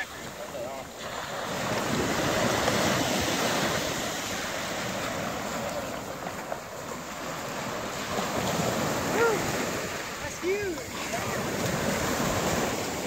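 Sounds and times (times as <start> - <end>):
small waves breaking on sand: 0.0 - 13.0.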